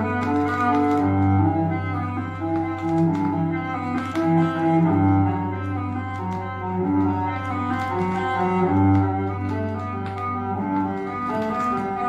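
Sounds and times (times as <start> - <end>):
classical music with bowed strings: 0.0 - 12.0
vinyl surface noise clicks: 0.0 - 12.0.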